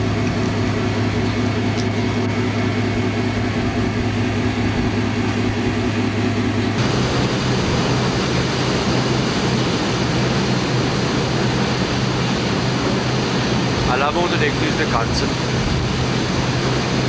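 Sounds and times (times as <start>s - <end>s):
boat diesel engine humming: 0.0s - 17.0s
broad rushing noise: 0.0s - 17.0s.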